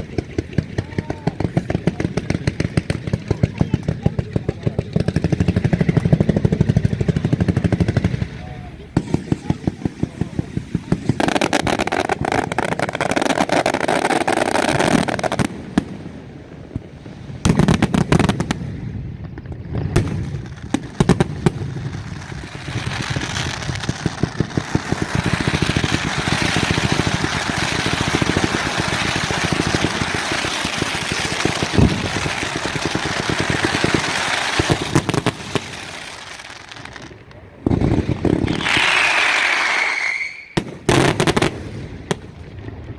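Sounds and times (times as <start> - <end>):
firecracker bangs and crackling: 0.0 - 42.9.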